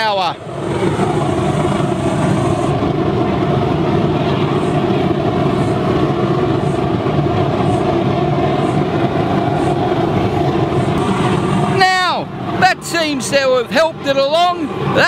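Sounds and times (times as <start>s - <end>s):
oil burner flame and blower roaring: 0.0s - 15.0s.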